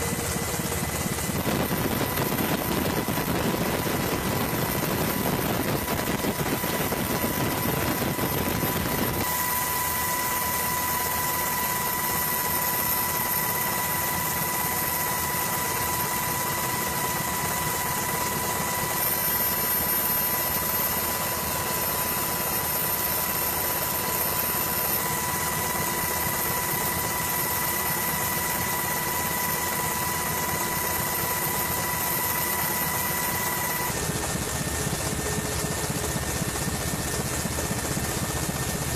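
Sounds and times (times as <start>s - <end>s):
high whine: 0.0s - 36.0s
aircraft engine and rotor drone: 0.0s - 38.9s.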